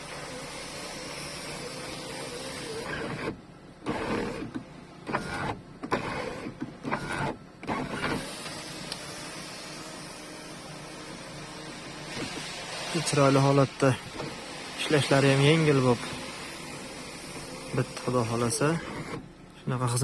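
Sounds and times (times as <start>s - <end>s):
electric sunroof motor running: 0.0s - 19.5s.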